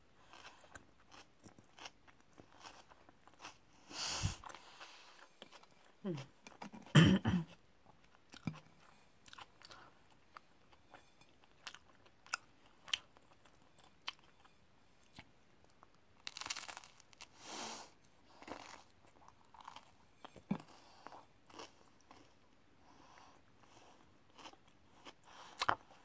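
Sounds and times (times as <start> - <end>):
person chewing crunchy food: 0.2 - 17.4, 18.2 - 22.5, 23.4 - 26.0.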